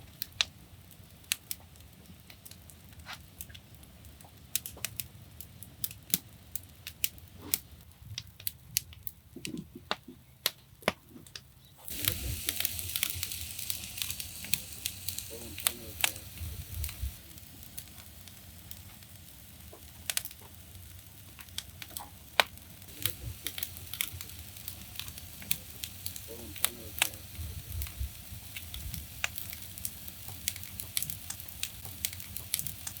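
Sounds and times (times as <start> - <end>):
low steady fire rumble: 0.0 - 33.0
wood fire crackling and popping: 0.0 - 33.0.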